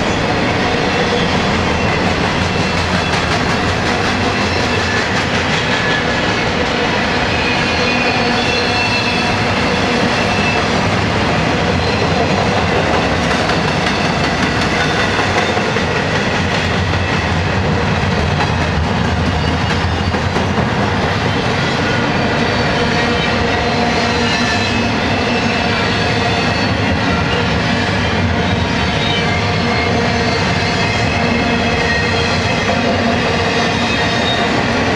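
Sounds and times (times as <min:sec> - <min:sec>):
freight train wheels rumbling: 0:00.0 - 0:34.9.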